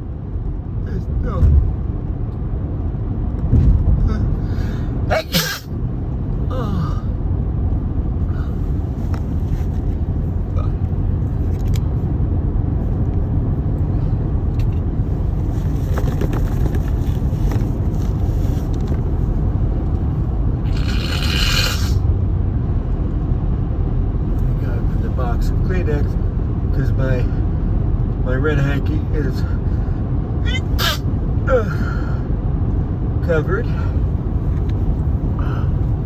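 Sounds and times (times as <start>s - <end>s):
car road rumble: 0.0s - 36.0s.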